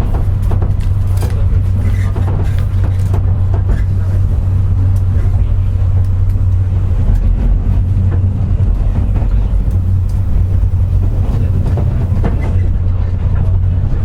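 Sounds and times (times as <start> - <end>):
train running low rumble: 0.0 - 14.0.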